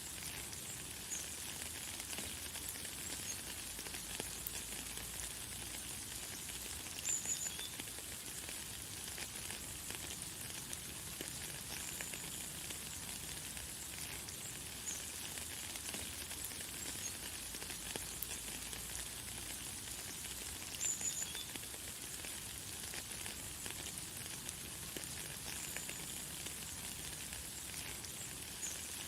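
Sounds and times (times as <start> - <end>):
light rain pattering: 0.0 - 29.0.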